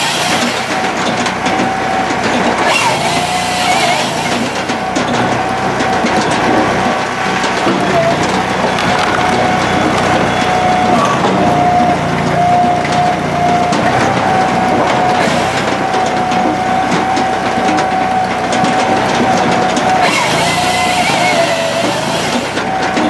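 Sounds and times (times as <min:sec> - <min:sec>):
engine and hydraulics whine: 0:00.0 - 0:23.0.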